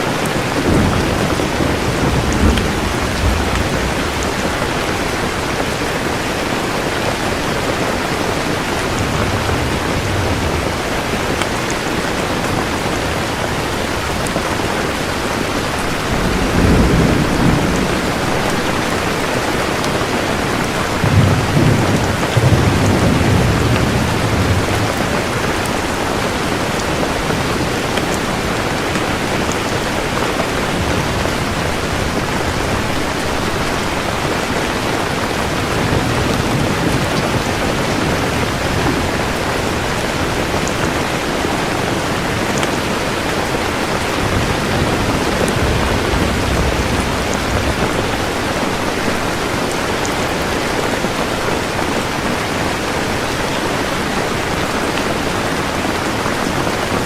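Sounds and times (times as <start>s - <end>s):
dense rainfall: 0.0s - 57.0s
low thunder rumble: 0.2s - 51.2s.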